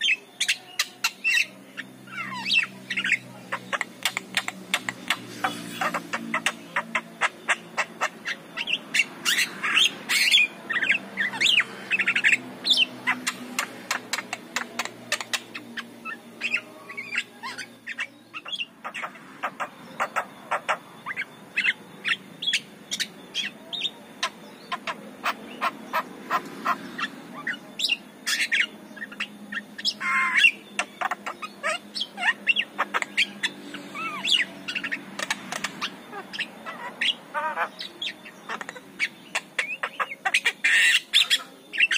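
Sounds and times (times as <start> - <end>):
bird chattering and whistling: 0.0 - 41.9.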